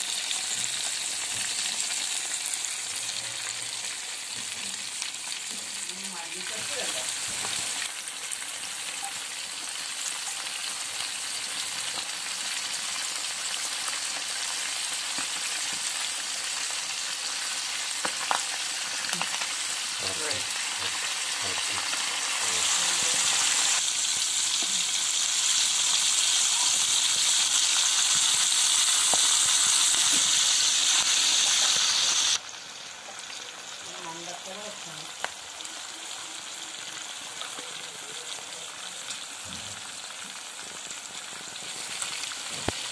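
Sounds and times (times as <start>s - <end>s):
chicken deep-frying in hot oil: 0.0s - 42.9s.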